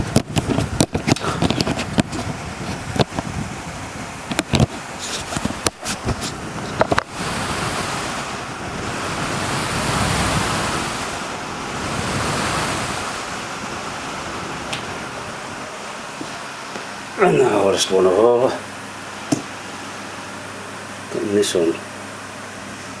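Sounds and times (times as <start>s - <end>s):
fan wind on microphone: 0.0s - 23.0s.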